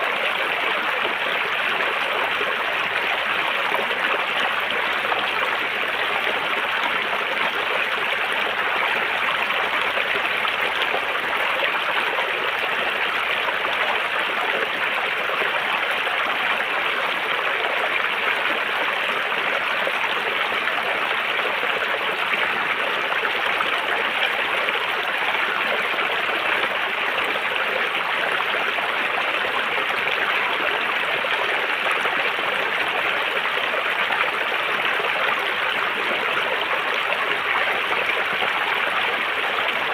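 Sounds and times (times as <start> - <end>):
river water over rocks: 0.0 - 39.9.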